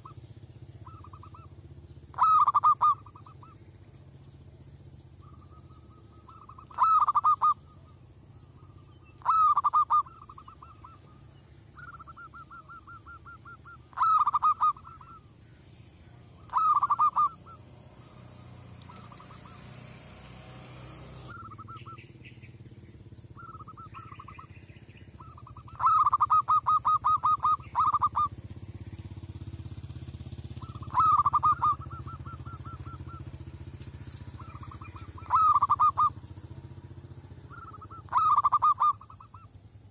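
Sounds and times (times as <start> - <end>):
dove cooing: 0.0 - 0.2, 0.8 - 3.6, 5.2 - 15.4, 16.1 - 22.1, 23.3 - 28.4, 29.3 - 36.6, 37.3 - 39.5.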